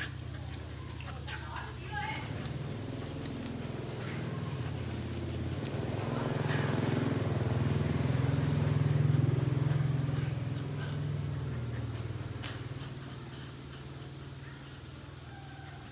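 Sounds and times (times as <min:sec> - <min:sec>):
low engine hum: 0:00.0 - 0:15.7.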